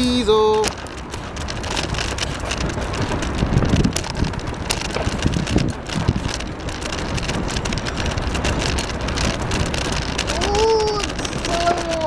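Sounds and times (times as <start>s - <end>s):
bicycle tyres rolling: 0.0s - 12.0s
small clicks and rattles: 0.0s - 12.0s
wind buffeting microphone: 0.0s - 12.0s.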